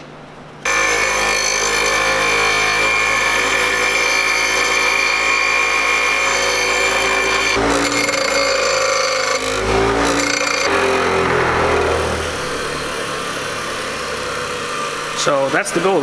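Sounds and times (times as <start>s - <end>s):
bench grinder grinding metal: 0.6s - 16.0s
grinder wheel spinning: 0.7s - 16.0s.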